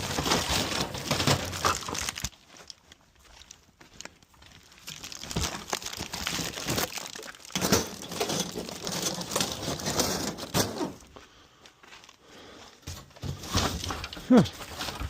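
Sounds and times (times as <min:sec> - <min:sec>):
knocks and clatters of items: 0:00.0 - 0:03.5, 0:04.5 - 0:11.2, 0:12.8 - 0:15.0
plastic and paper crinkling: 0:00.0 - 0:15.0.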